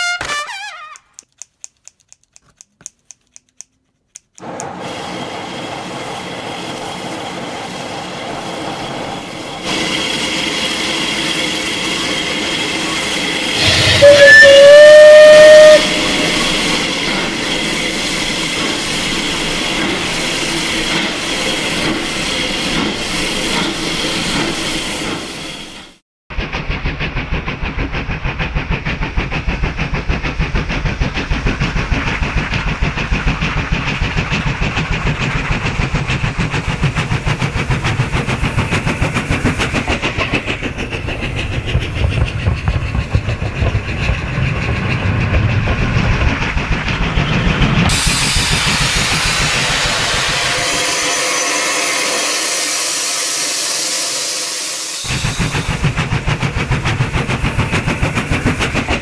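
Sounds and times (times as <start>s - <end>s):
steam train running: 4.2s - 59.0s.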